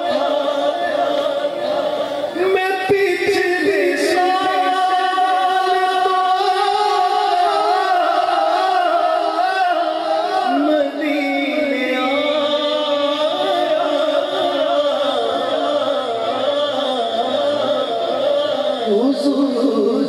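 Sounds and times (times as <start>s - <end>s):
man singing into a microphone: 0.0s - 20.0s
men's voices sustained: 0.0s - 20.0s.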